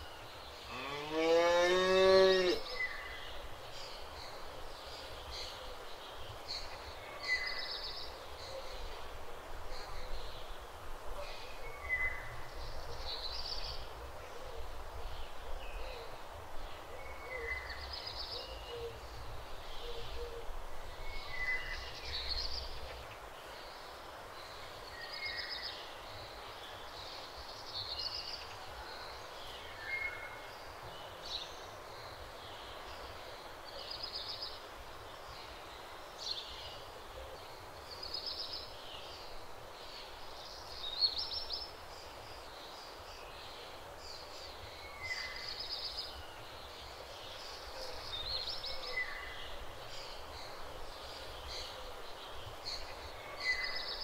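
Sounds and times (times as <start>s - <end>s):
outdoor background: 0.0s - 54.0s.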